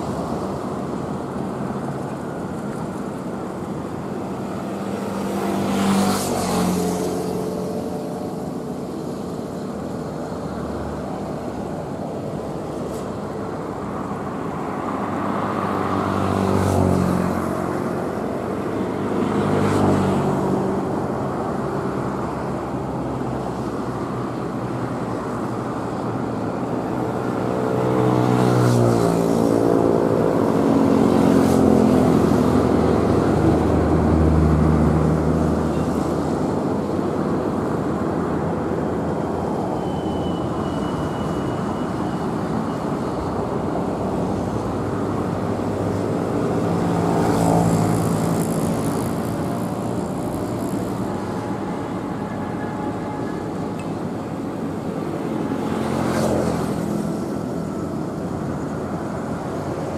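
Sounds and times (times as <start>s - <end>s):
cars passing by: 0.0s - 59.9s.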